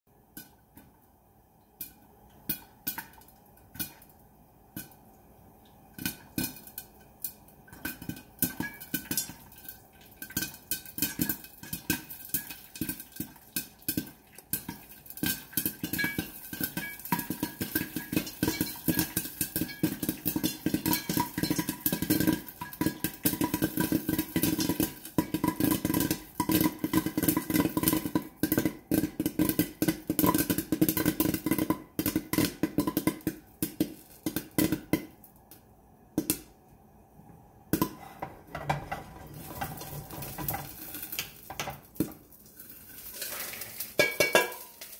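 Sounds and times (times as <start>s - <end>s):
popcorn kernels popping: 0.2s - 0.9s, 1.7s - 36.6s, 37.7s - 44.9s
kernels rattling against pan: 6.0s - 35.0s, 37.8s - 44.9s.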